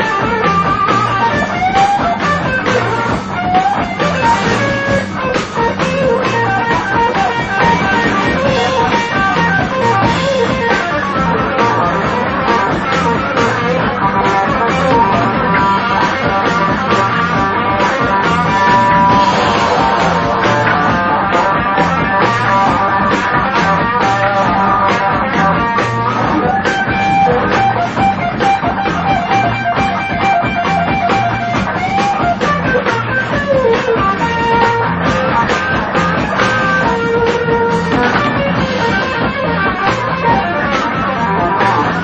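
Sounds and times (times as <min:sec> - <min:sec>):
guitar rock music: 0:00.0 - 0:42.0.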